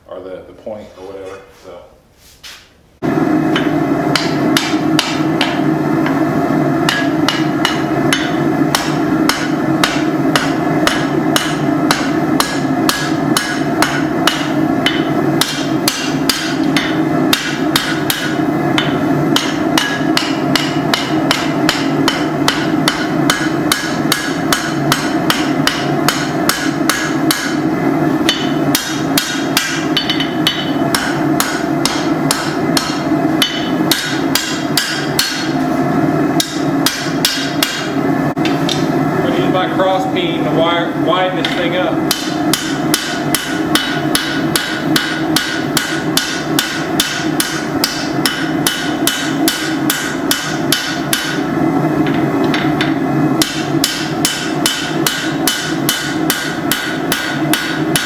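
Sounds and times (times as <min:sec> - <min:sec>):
propane forge roaring: 0:02.9 - 0:58.0
hammer striking hot steel on anvil: 0:03.4 - 0:40.0, 0:41.2 - 0:58.0.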